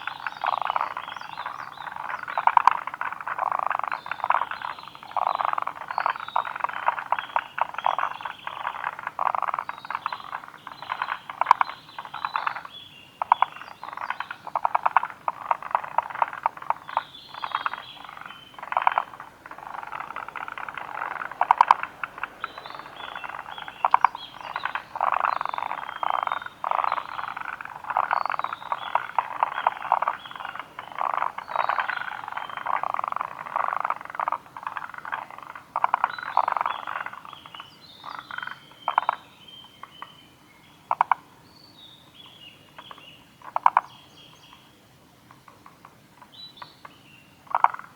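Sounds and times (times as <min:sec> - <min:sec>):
tree frogs croaking: 0:00.0 - 0:47.9.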